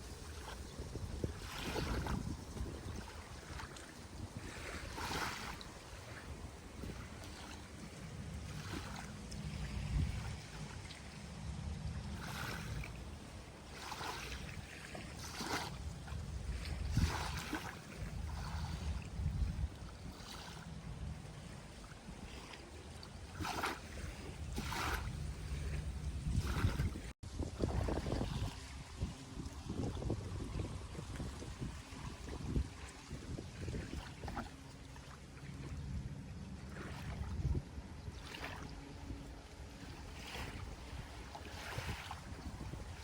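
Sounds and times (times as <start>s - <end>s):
small waves splashing on beach: 0.0s - 43.0s
wind rumbling on microphone: 0.0s - 43.0s.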